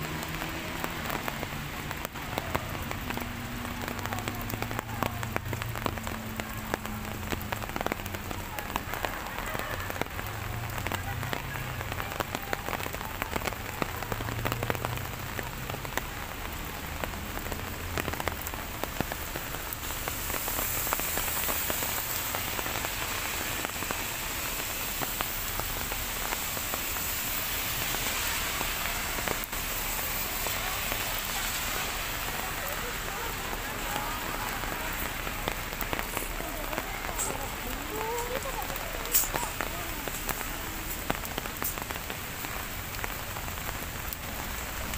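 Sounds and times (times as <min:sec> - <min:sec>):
raindrops ticking: 0:00.0 - 0:44.9
steady rain falling: 0:00.0 - 0:44.9.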